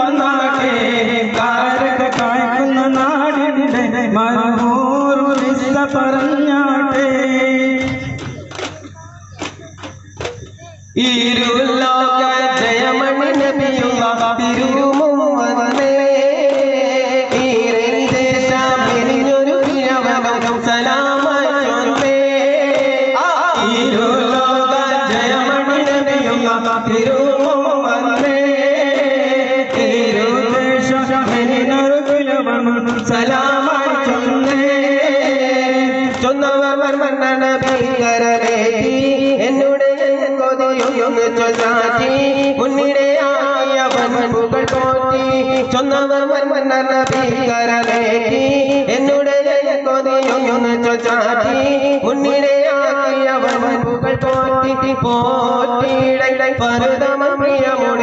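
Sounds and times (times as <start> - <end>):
frame drums beaten in rhythm: 0.0 - 40.0, 40.7 - 58.0
voices singing a devotional chant: 0.0 - 58.0.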